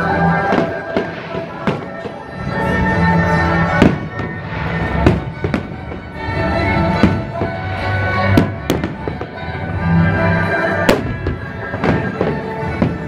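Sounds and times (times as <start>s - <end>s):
fireworks bursting with sharp bangs: 0.0s - 13.0s
music playing: 0.0s - 13.0s.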